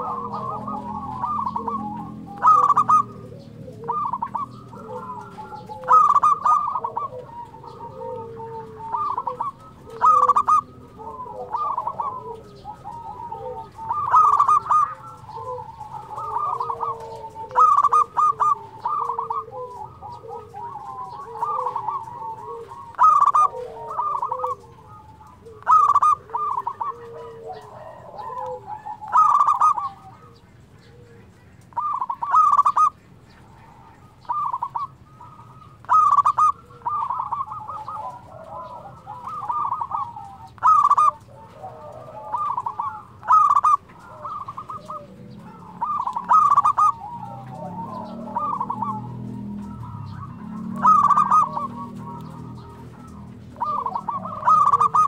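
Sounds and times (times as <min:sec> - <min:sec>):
dove cooing: 0:00.0 - 0:55.0.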